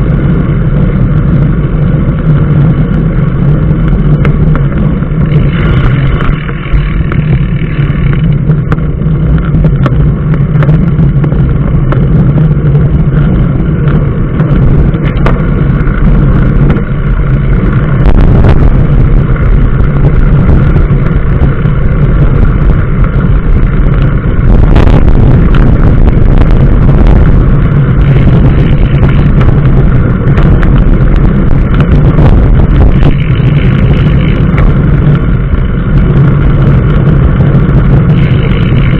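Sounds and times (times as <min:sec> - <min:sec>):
road and wind rumble: 0:00.0 - 0:38.9
vehicle engine hum: 0:00.0 - 0:38.9.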